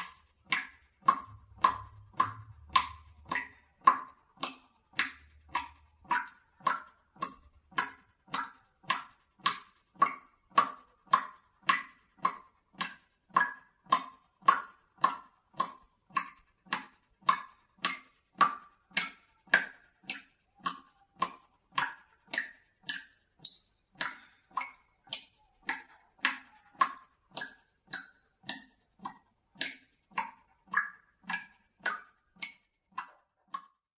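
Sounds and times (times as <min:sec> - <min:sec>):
water dripping into a bucket: 0:00.0 - 0:33.9.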